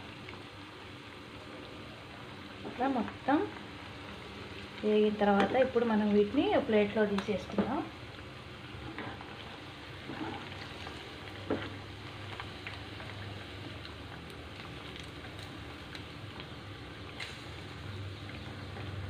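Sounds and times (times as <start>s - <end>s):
food deep-frying in oil: 0.0s - 19.0s.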